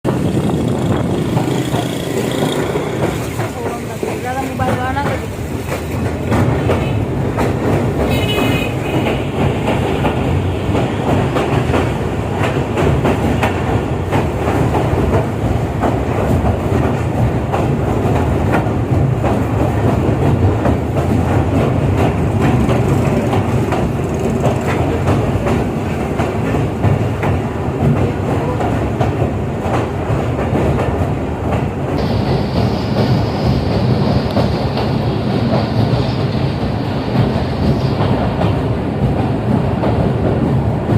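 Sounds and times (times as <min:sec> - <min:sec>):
train wheels clattering over rails: 0:00.0 - 0:40.9.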